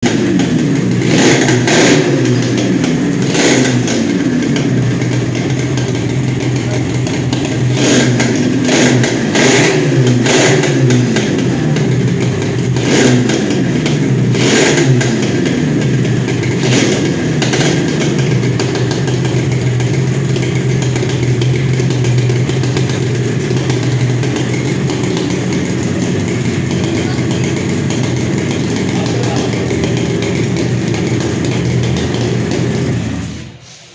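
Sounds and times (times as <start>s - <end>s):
motorcycle engine revving and idling: 0.0s - 33.9s.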